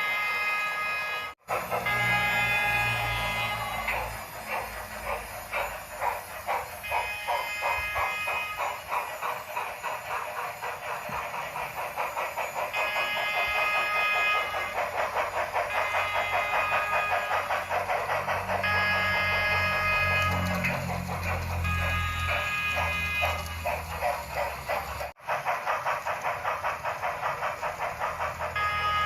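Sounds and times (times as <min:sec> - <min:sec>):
steam locomotive chuffing: 0:00.0 - 0:29.0.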